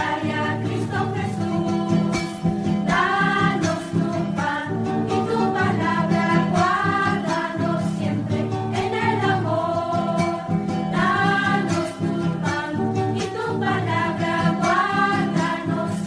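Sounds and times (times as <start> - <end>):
voices singing a hymn: 0.0 - 16.0.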